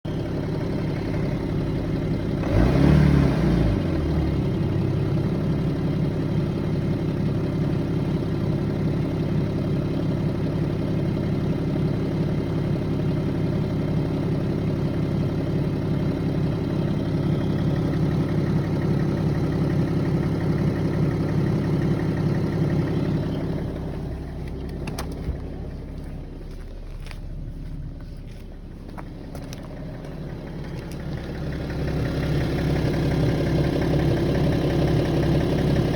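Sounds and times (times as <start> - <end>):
diesel engine idling and revving: 0.0 - 35.9
engine knock at idle: 0.1 - 2.7, 3.8 - 35.9.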